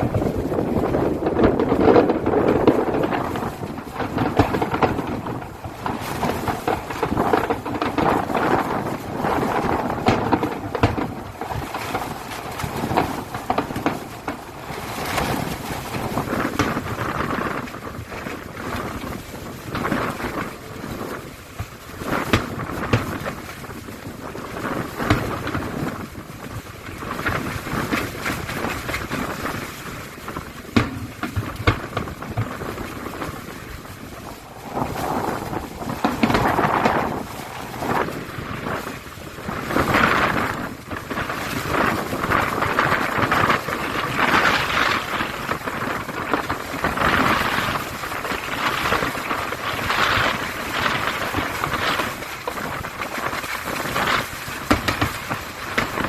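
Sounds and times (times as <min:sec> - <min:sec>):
fireworks bangs and crackling: 0:00.0 - 0:56.0
wind buffeting microphone: 0:00.0 - 0:56.0.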